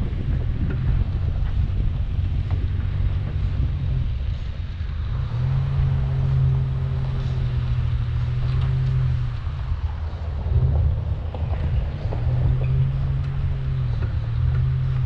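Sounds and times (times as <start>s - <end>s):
engine rough low rumble: 0.0s - 15.0s
steady low drone: 0.0s - 15.0s.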